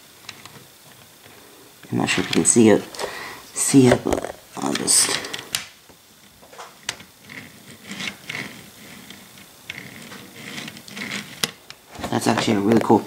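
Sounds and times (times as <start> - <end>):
model train wheels rolling on rails: 0.0 - 5.6, 6.2 - 13.0.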